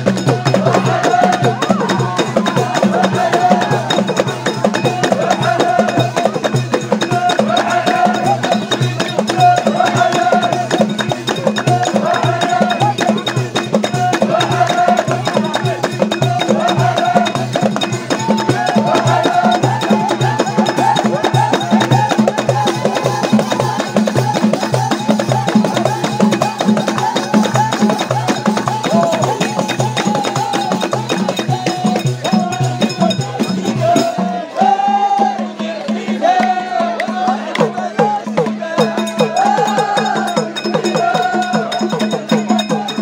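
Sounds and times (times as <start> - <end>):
crowd chanting together: 0.0 - 43.0
frame drums: 0.0 - 43.0
rhythmic hand clapping: 0.0 - 43.0.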